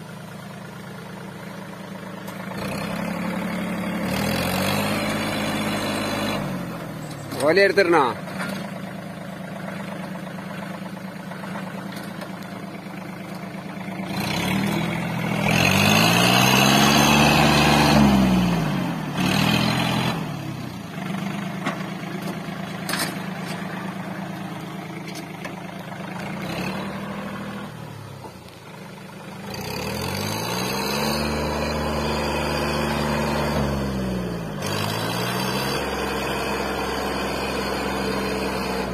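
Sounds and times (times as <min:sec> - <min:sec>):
tractor diesel engine revving: 0:00.0 - 0:38.9.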